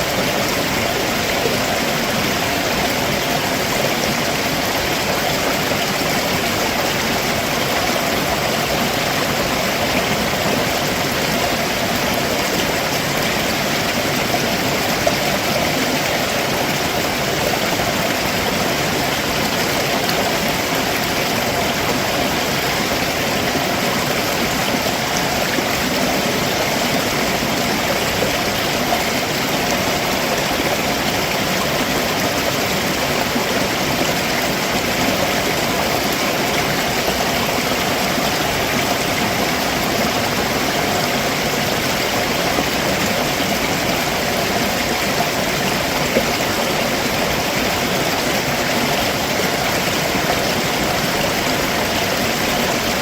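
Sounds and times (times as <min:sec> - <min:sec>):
stream water running over rocks: 0:00.0 - 0:53.0.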